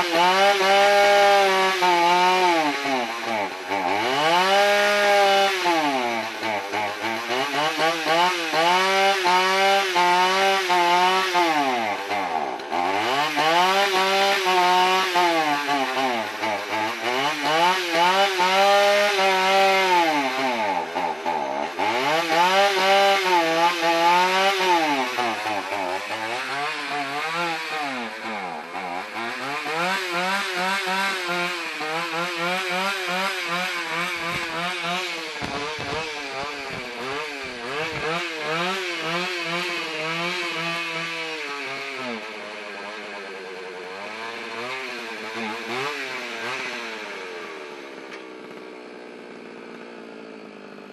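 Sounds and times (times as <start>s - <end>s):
chainsaw engine at high revs: 0.0s - 50.9s.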